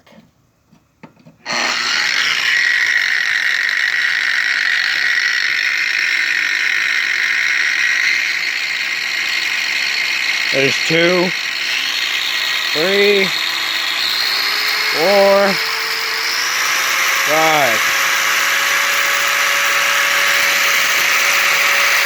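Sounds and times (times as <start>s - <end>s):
angle grinder whining: 1.4s - 22.0s.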